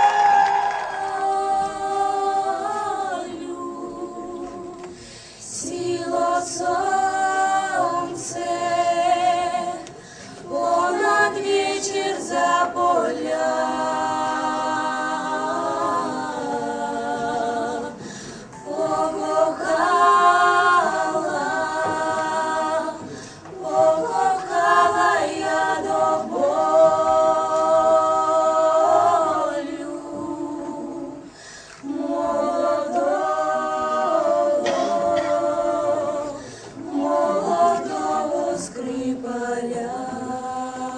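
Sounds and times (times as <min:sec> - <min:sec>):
a cappella group singing: 0:00.0 - 0:40.9.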